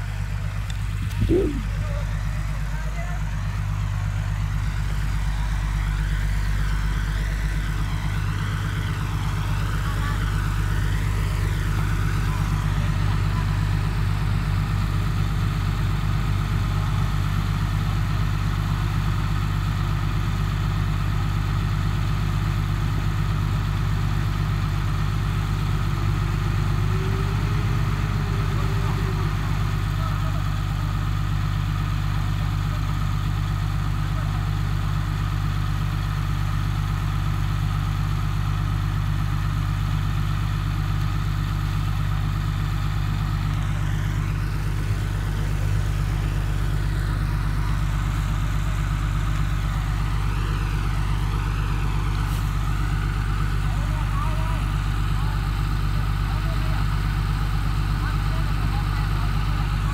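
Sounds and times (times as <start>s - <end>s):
construction machine engine drone: 0.0s - 59.9s.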